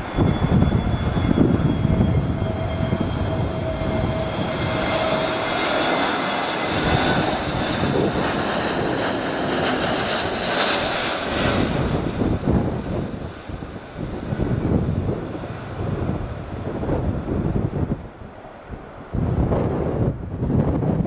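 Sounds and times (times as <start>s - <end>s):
broad rush of engine noise: 0.0s - 21.0s
jet engines whining: 0.0s - 21.0s.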